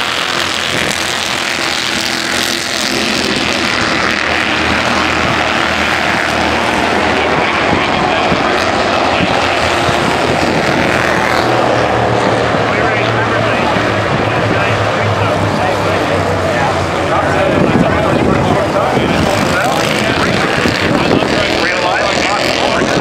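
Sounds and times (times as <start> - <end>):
race car engines buzzing: 0.0 - 23.0.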